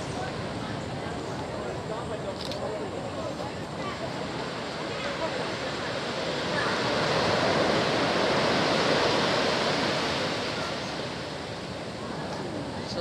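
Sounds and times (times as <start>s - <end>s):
steady outdoor rushing noise: 0.0s - 13.0s.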